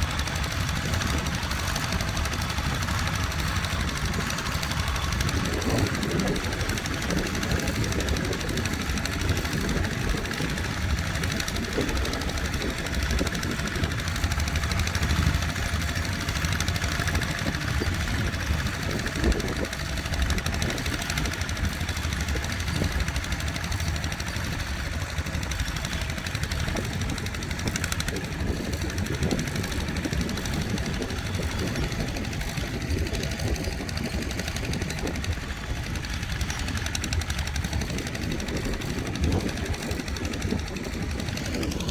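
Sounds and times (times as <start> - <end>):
tractor engine rumbling: 0.0 - 41.9.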